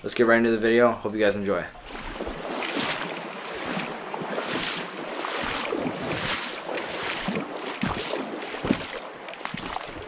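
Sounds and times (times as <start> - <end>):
river water rushing: 1.8 - 10.0.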